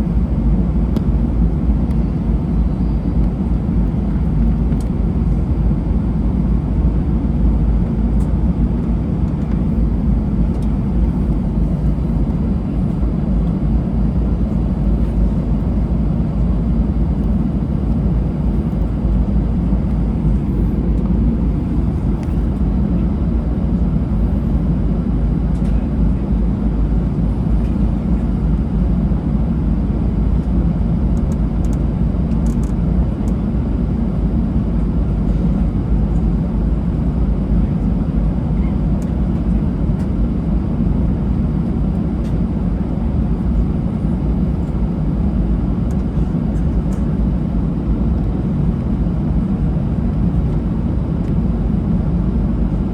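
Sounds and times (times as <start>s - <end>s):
jet engine rumble in cabin: 0.0s - 52.9s.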